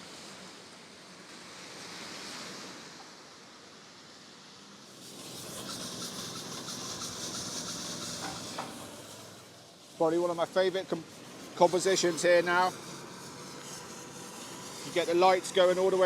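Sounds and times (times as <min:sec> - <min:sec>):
tyres hissing on wet street: 0:00.0 - 0:16.0
wind: 0:00.0 - 0:16.0.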